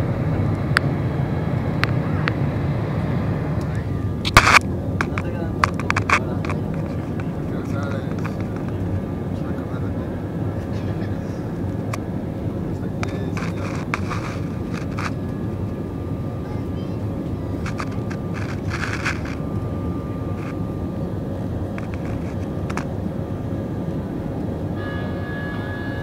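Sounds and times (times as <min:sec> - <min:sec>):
high-pitched whine: 0:00.0 - 0:26.0
jet engine and airflow rumble: 0:00.0 - 0:26.0.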